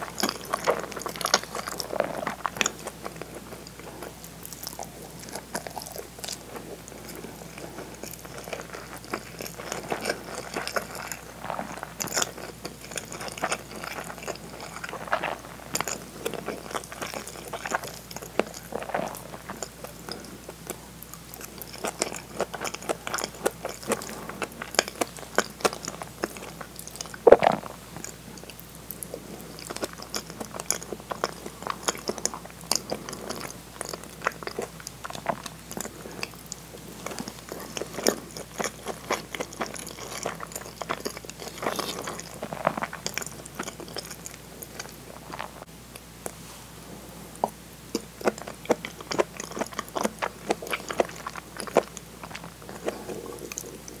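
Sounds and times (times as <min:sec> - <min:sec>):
person chewing food: 0:00.0 - 0:46.4, 0:47.3 - 0:54.0.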